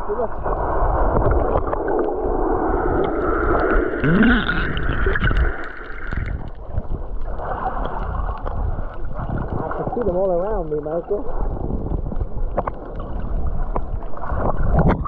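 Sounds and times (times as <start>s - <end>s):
muffled water sloshing and gurgling: 0.0s - 15.0s.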